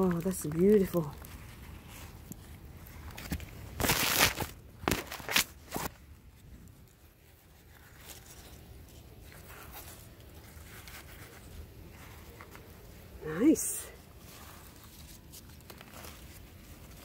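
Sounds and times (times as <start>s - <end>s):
soil crunching and rustling: 0.0s - 17.0s.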